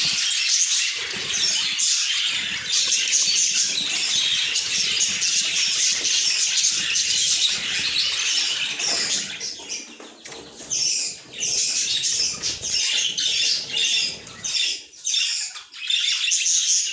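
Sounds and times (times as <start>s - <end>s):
budgies chirping and chattering: 0.0s - 16.9s.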